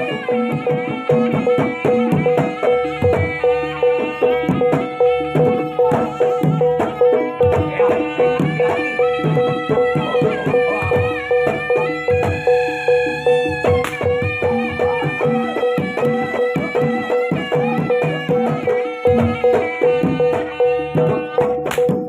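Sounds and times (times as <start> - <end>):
hand drums beating: 0.0 - 22.0
pitched melody with held tone: 0.0 - 22.0.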